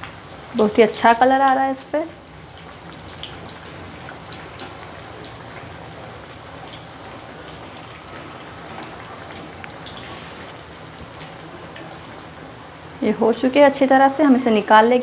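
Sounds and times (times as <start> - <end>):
cutlets sizzling in hot oil: 0.0 - 15.0.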